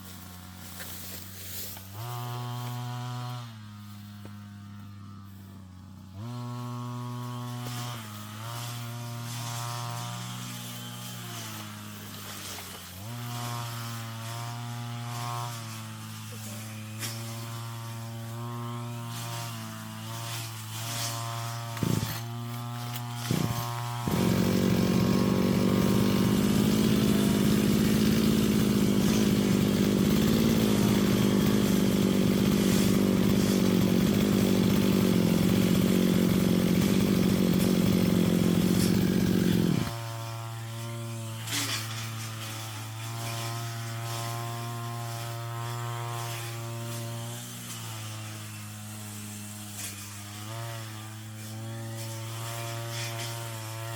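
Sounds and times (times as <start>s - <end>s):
brush cutter engine: 0.0s - 53.9s.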